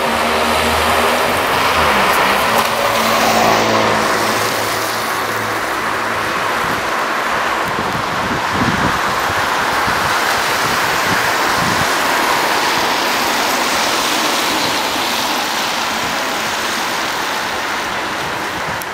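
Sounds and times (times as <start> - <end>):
car tyres hissing on wet road: 0.0 - 18.9.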